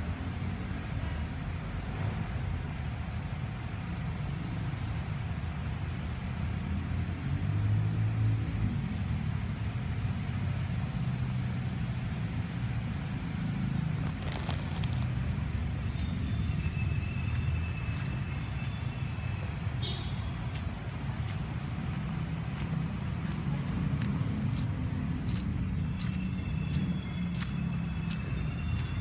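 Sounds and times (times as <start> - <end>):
low rumble of road traffic: 0.0 - 29.0.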